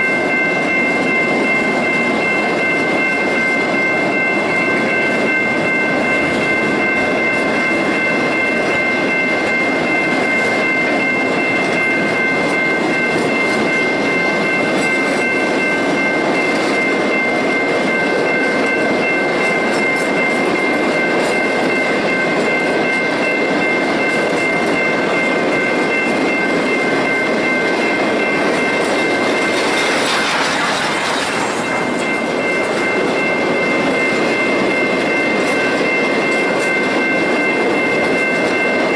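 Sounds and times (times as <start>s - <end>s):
train cars rumbling and clacking: 0.0s - 38.9s.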